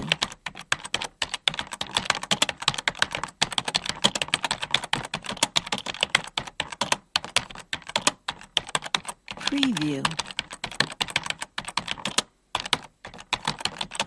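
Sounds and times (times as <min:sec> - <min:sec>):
fast typing on keyboard: 0:00.0 - 0:14.0.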